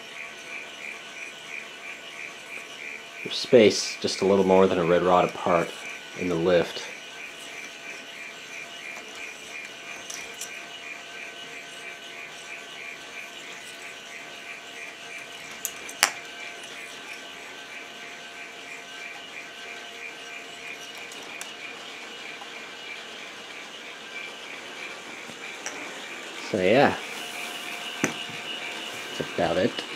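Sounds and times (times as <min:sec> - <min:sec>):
motor gear train whirring: 0:00.0 - 0:29.9.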